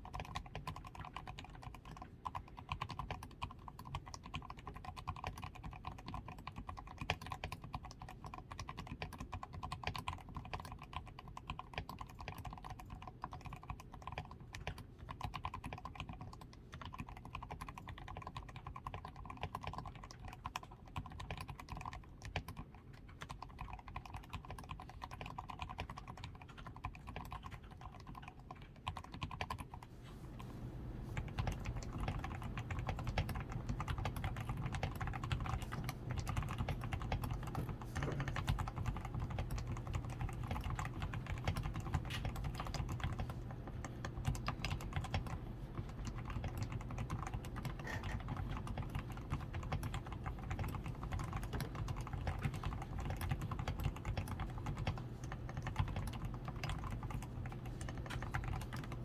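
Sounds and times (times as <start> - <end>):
typing on mechanical keyboard: 0.0 - 29.9, 30.7 - 59.0.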